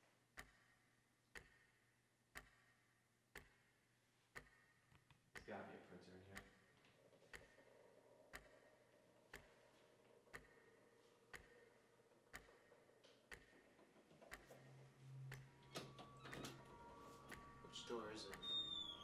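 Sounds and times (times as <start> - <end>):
faint clock ticking: 0.0 - 19.0.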